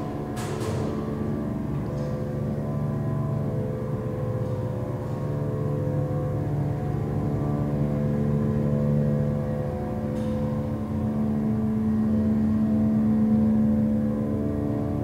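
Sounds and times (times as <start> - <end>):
elevator motor and pump humming: 0.0 - 15.0.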